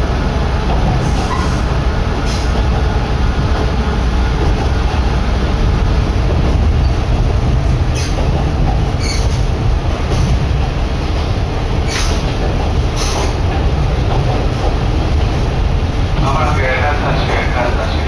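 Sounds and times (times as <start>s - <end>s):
railcar engine and wheels rumbling: 0.0s - 18.0s.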